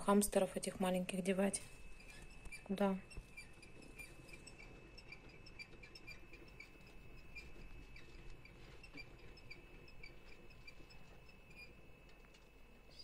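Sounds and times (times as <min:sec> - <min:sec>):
hamsters rustling in bedding: 0:00.0 - 0:13.0
light regular ticking: 0:00.0 - 0:13.0.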